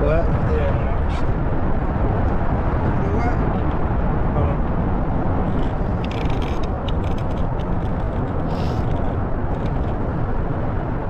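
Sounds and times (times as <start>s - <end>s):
boat low rumbling: 0.0s - 11.0s.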